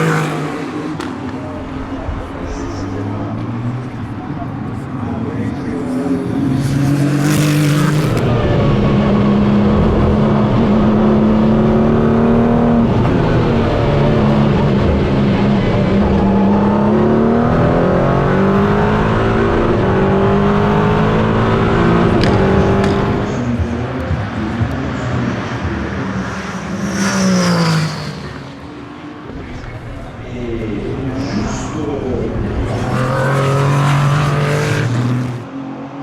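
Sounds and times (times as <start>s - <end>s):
race car engines: 0.0s - 36.0s.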